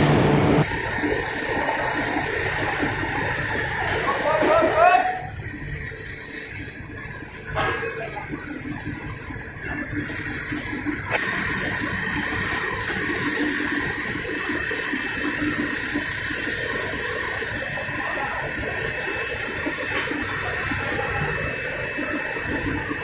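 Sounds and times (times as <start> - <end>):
high-pitched whine: 0.0 - 23.0.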